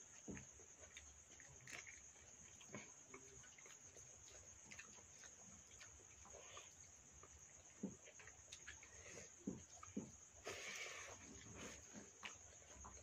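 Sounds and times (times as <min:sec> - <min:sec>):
cricket trill: 0:00.0 - 0:13.0
eating sounds: 0:00.0 - 0:13.0.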